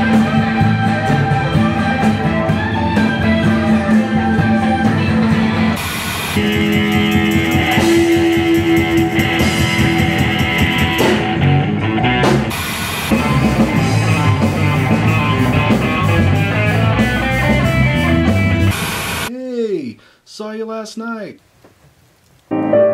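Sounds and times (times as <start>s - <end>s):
electric guitar lead: 0.0s - 19.3s, 22.5s - 22.9s
live band with drum kit: 0.0s - 19.3s.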